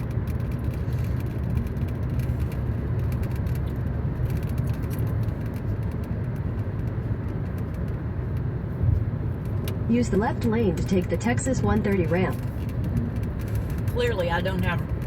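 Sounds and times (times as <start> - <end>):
car road noise: 0.0 - 15.0.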